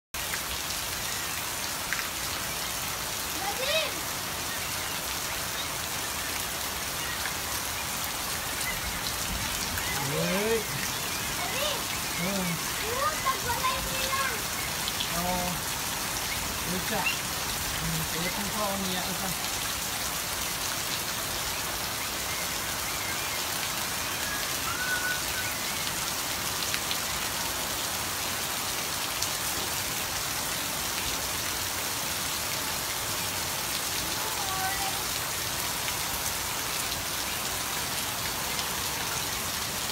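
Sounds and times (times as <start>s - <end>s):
steady rain: 0.1s - 39.9s.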